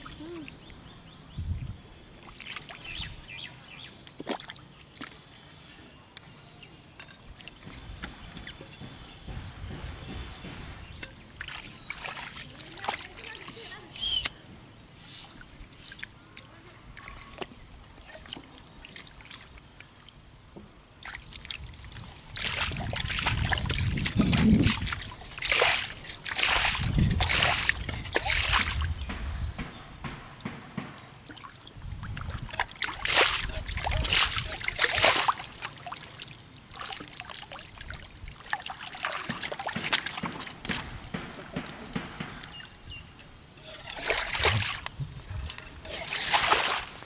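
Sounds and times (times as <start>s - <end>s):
muddy water sloshing and splashing: 0.0s - 5.7s, 7.0s - 20.2s, 20.8s - 47.0s.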